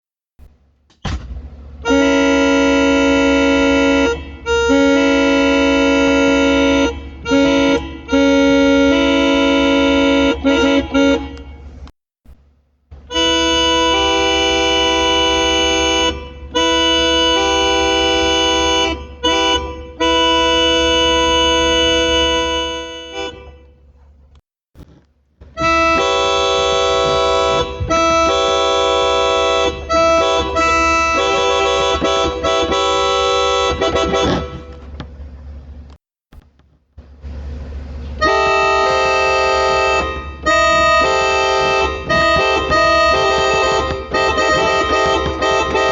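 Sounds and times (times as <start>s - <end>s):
keyboard playing held chords: 1.8s - 11.9s, 13.0s - 23.9s, 25.5s - 35.0s, 38.2s - 45.9s.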